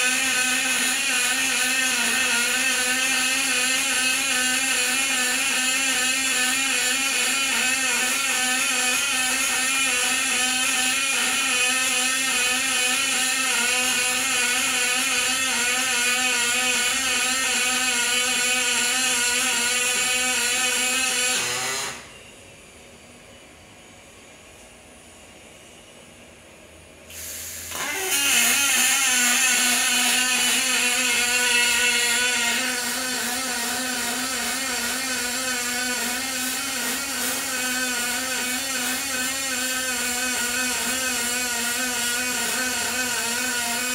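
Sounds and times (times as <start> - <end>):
welding arc buzzing and crackling: 0.0 - 22.1, 27.6 - 43.9.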